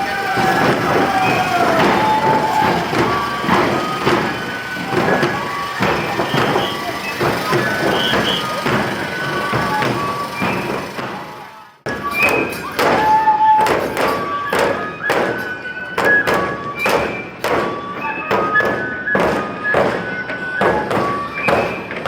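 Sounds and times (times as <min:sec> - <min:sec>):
high flute notes: 0:00.0 - 0:22.0
taiko drums beating: 0:00.0 - 0:22.0.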